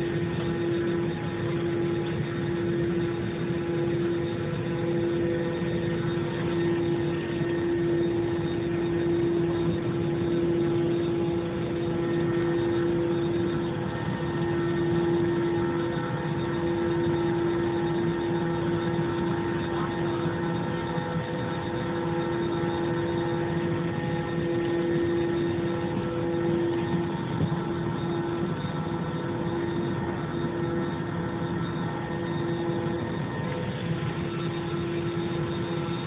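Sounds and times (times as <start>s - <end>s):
jet engines droning: 0.0s - 36.0s.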